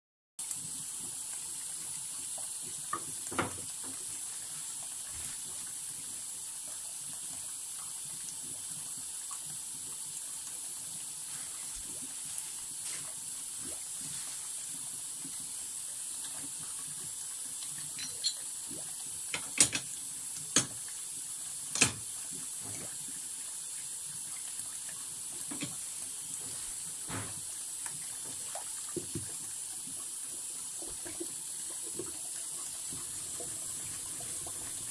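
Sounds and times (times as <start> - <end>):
tap water running into sink: 0.4 - 34.9.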